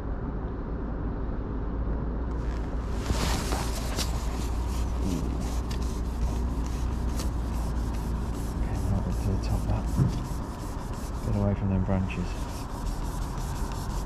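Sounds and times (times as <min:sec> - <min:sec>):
rubbing and rustling: 0:02.3 - 0:14.0.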